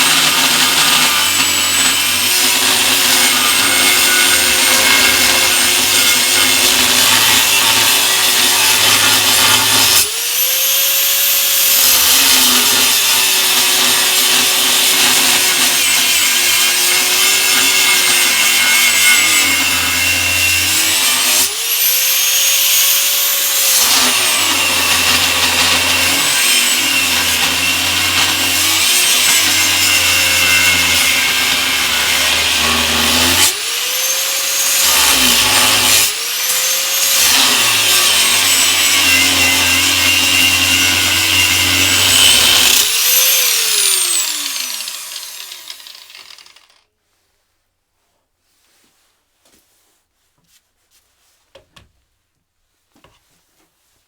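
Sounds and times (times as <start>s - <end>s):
power tool cutting steel: 0.0s - 46.8s.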